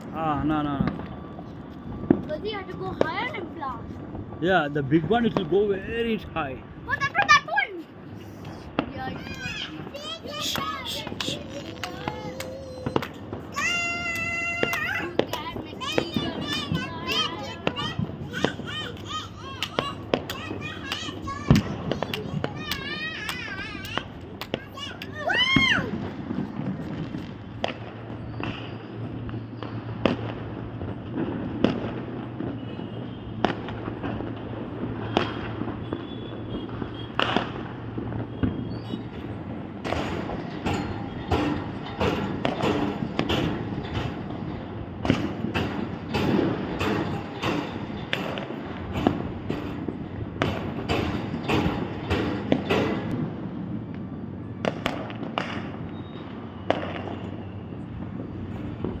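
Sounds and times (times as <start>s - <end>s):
fireworks banging: 0.0s - 59.0s.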